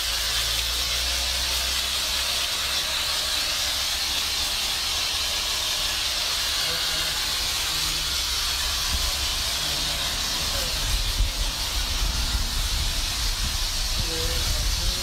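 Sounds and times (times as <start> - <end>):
pressure washer spraying water: 0.0 - 15.0.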